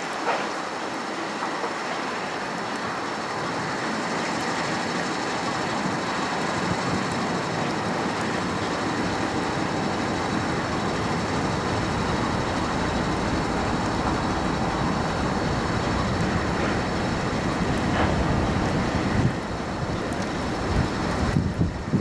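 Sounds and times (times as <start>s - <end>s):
steam locomotive rushing: 0.0s - 22.0s.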